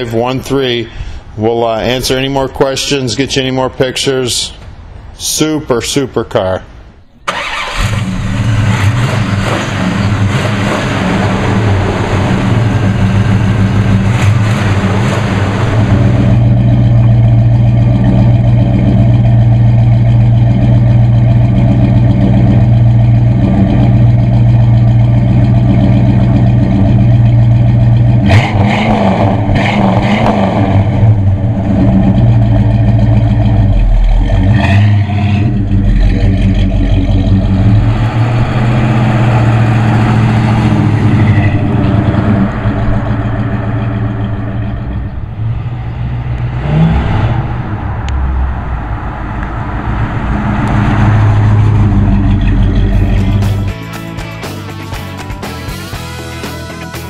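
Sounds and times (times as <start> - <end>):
car driving off: 7.2 - 57.0
car engine running: 7.3 - 57.0.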